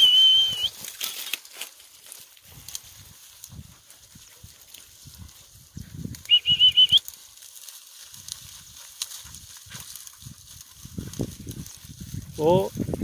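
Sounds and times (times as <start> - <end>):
steps rustling through brush: 0.0 - 13.0.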